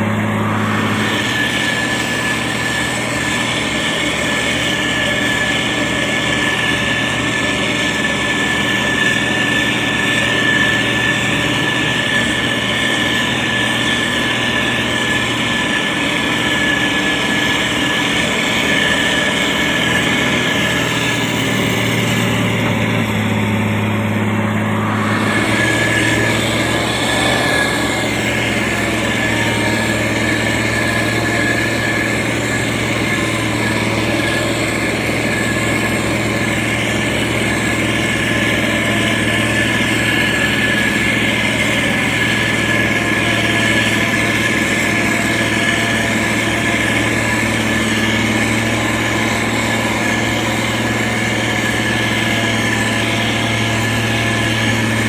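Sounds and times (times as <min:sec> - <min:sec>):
diesel engine humming: 0:00.0 - 0:55.0
high engine whine: 0:00.0 - 0:55.0.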